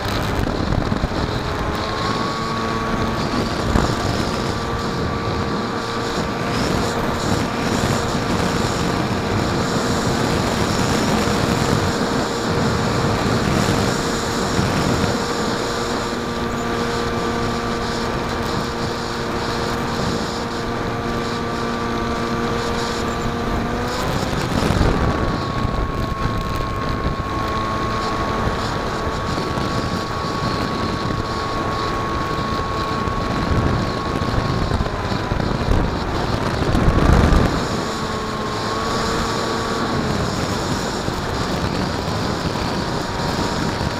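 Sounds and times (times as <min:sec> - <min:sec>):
propeller and motor whine: 0:00.0 - 0:43.9
wind rushing past microphone: 0:00.0 - 0:43.9.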